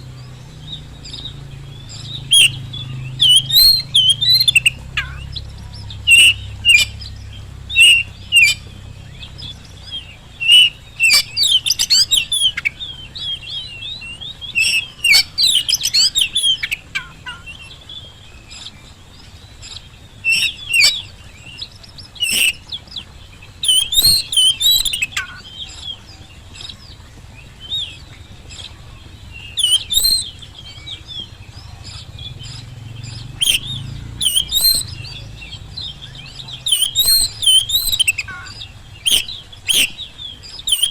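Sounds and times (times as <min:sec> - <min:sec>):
bird singing whistles: 0:00.0 - 0:18.8, 0:19.7 - 0:26.9, 0:27.6 - 0:40.9.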